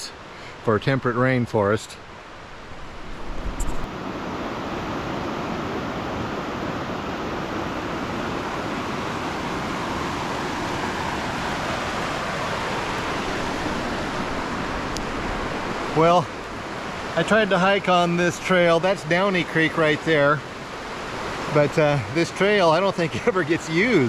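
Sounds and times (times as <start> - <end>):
rushing creek water: 0.0 - 24.0.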